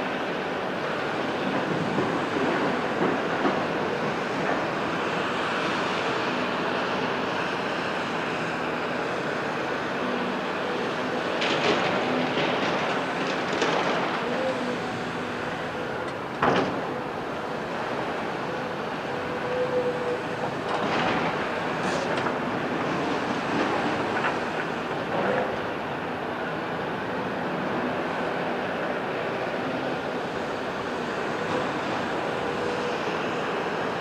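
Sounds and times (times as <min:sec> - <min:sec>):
excavator diesel and hydraulics: 0:00.0 - 0:34.0.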